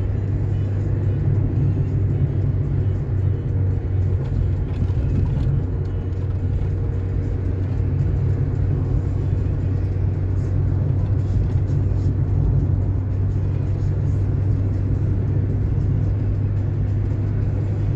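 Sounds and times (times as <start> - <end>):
car engine and tyres rumbling: 0.0 - 17.9.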